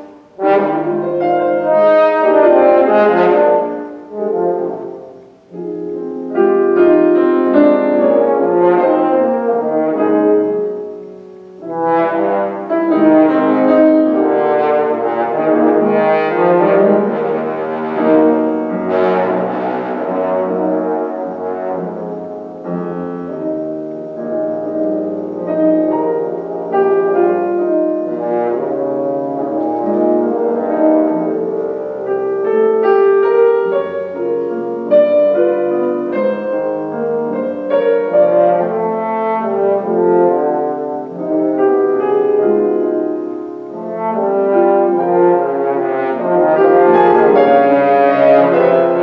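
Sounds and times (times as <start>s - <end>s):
french horn playing: 0.0s - 49.0s
piano accompaniment: 0.0s - 49.0s.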